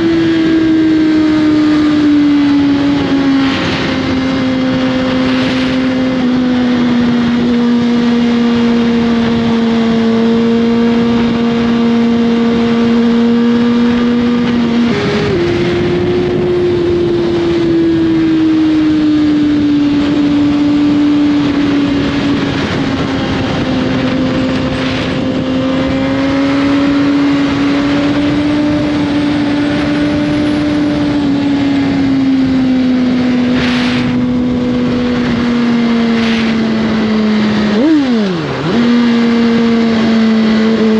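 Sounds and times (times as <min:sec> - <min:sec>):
motorcycle engine: 0:00.0 - 0:40.9
rush of noise: 0:00.0 - 0:40.9.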